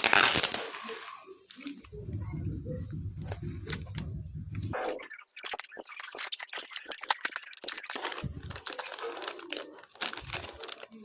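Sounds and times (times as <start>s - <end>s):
material crinkling and clicking: 0.0s - 2.0s, 2.8s - 11.0s.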